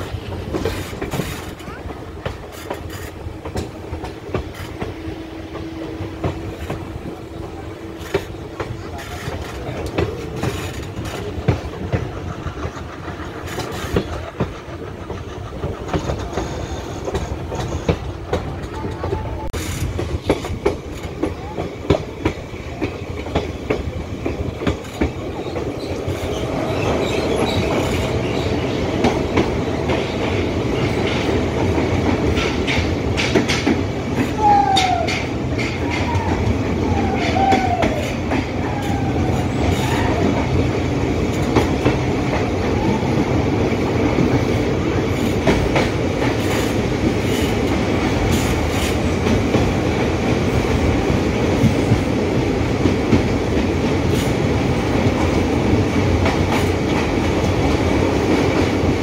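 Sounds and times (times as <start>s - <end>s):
train rumbling: 0.0s - 59.0s
wheels clicking over rail joints: 0.0s - 59.0s.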